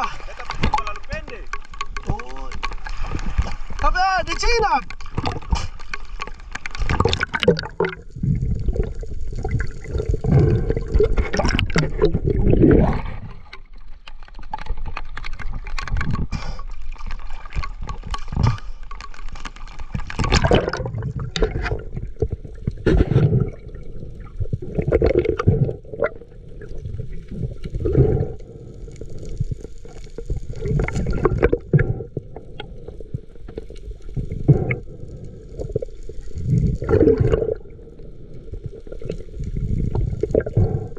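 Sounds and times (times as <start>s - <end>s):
seawater sloshing and gurgling: 0.0s - 40.9s
water splashes: 0.0s - 40.9s.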